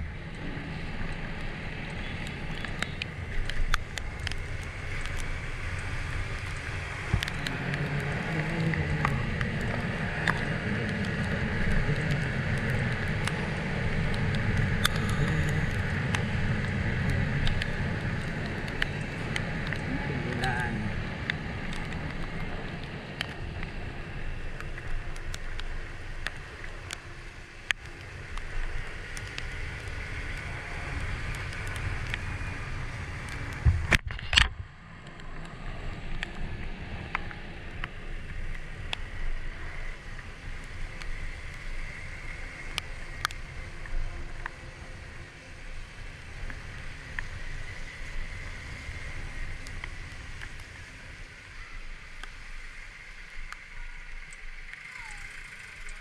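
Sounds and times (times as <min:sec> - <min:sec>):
wind rush: 0:00.0 - 0:51.2
scooter low rumble: 0:00.0 - 0:56.0
wet road noise: 0:00.0 - 0:56.0.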